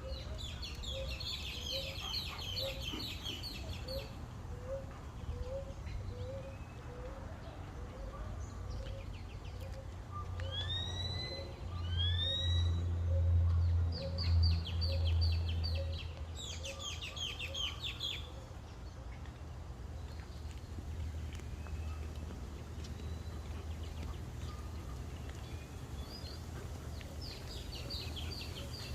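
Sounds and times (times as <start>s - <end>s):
birds calling and singing: 0.0s - 28.9s.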